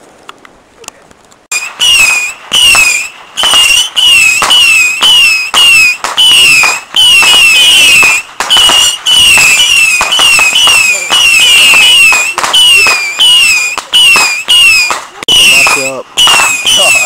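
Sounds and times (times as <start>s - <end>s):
whistling fireworks: 1.5s - 17.0s.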